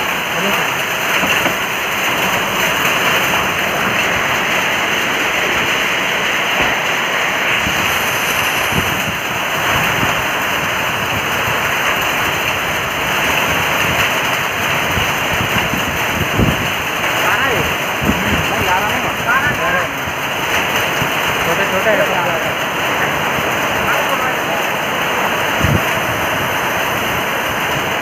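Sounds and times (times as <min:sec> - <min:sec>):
heavy rain hiss: 0:00.0 - 0:28.0.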